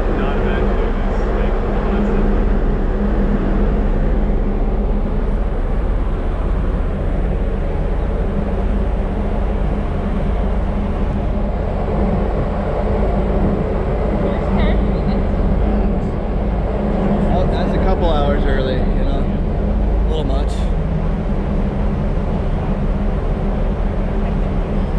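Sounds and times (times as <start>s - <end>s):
ship engines droning: 0.0s - 24.9s.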